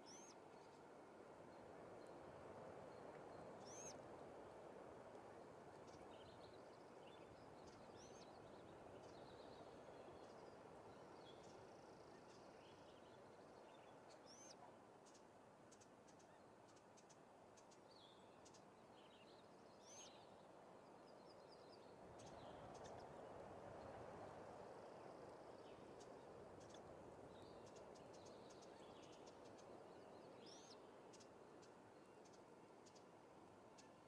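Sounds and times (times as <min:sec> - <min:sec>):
steady low background hiss: 0:00.0 - 0:34.0.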